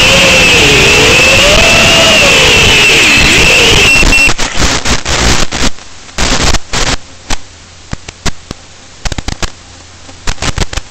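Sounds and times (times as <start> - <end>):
crackling radio static: 0.0 - 10.9
low steady hum: 0.0 - 10.9.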